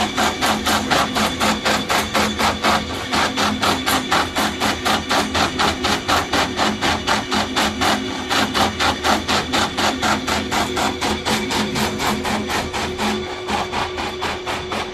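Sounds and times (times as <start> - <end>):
cutting machine sharp strokes: 0.0 - 14.9
machine hum: 0.0 - 14.9.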